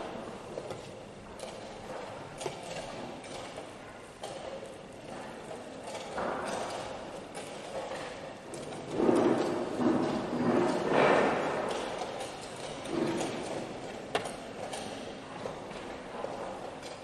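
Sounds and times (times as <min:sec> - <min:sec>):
room noise: 0:00.0 - 0:17.0.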